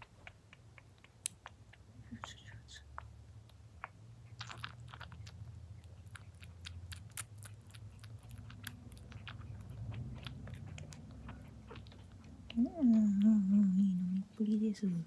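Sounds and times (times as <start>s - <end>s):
kitten suckling from bottle: 0.0s - 14.4s
low steady hum: 0.0s - 15.0s.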